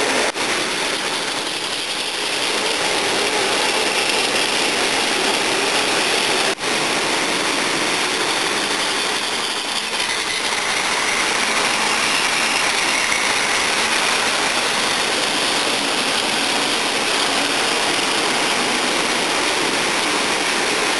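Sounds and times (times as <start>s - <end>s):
toy train motors whirring: 0.0s - 20.9s
wheels rattling on plastic rails: 0.0s - 20.9s.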